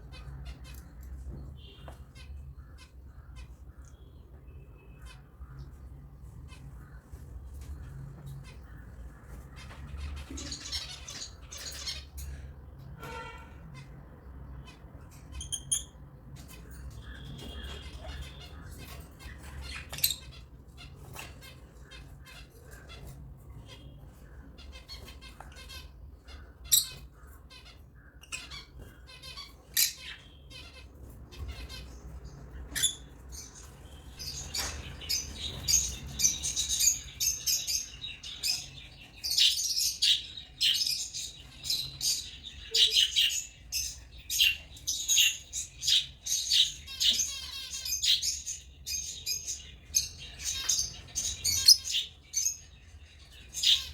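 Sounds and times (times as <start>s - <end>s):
lovebirds chirping and squawking: 0.0s - 53.9s.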